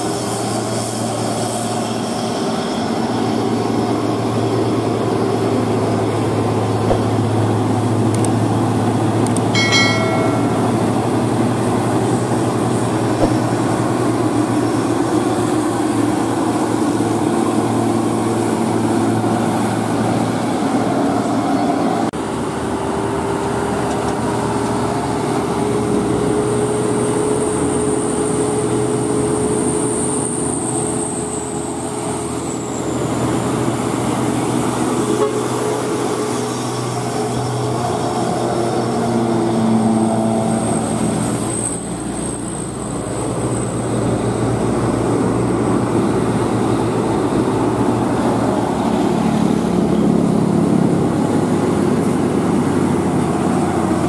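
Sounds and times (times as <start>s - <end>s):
diesel trucks driving past: 0.0s - 54.0s.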